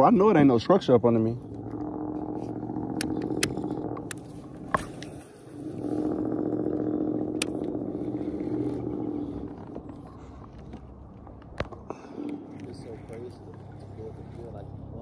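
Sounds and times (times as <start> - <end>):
fishing reel gear whir: 0.0 - 15.0.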